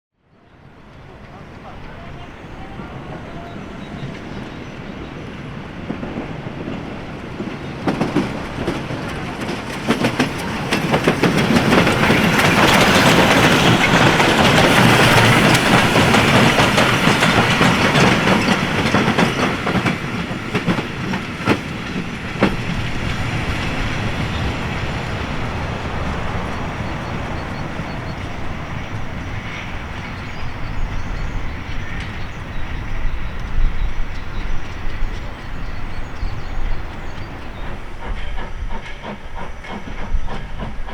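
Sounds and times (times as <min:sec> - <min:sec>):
steam train passing: 0:00.3 - 0:40.9
train wheels clattering over rail joints: 0:03.5 - 0:40.9.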